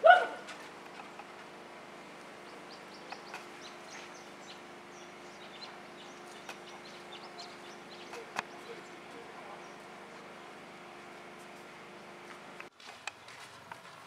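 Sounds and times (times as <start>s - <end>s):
birds chirping: 0.0s - 12.7s
faint steady hum: 0.0s - 13.8s.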